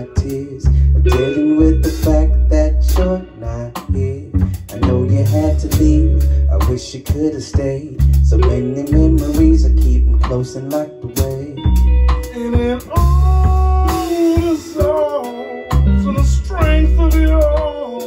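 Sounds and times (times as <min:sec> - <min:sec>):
man singing long notes: 0:00.0 - 0:18.0
soul band playing: 0:00.0 - 0:18.0.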